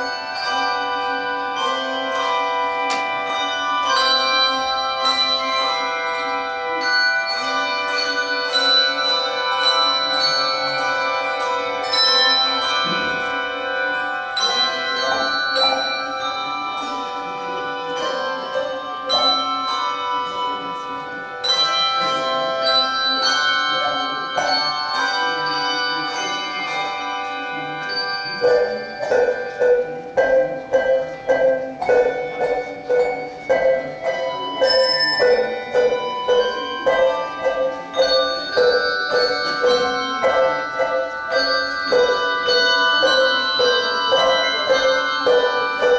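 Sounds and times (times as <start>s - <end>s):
handbell choir ringing chords: 0.0s - 45.9s.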